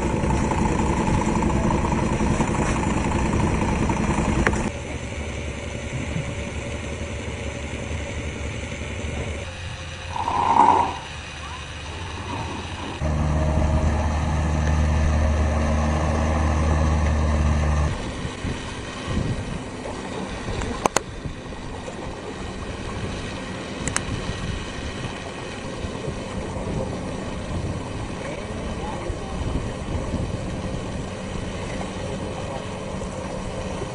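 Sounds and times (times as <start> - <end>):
motorboat engine idling: 0.0 - 33.9
water noise: 0.0 - 33.9
wind: 0.0 - 33.9.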